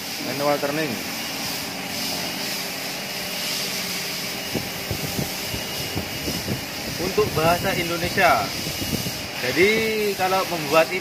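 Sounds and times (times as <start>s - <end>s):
metal lathe whirring: 0.9s - 11.0s.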